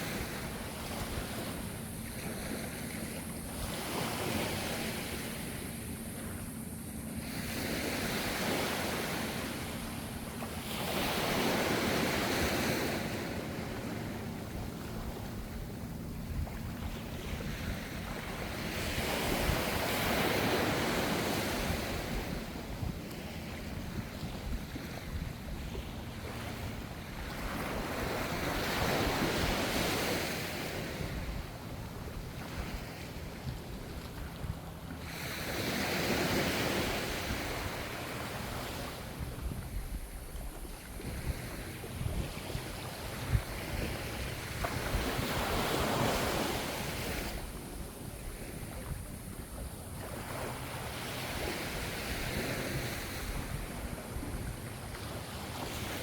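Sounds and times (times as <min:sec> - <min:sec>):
waves breaking and washing in: 0:00.0 - 0:56.0.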